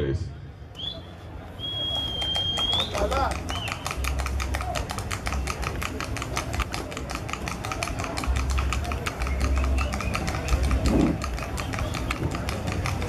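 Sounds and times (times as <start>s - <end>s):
horse hoofbeats on hard track: 1.8s - 13.0s.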